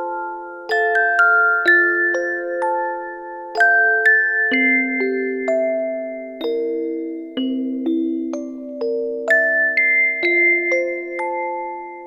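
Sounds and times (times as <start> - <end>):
music box playing slow tune: 0.0 - 12.0.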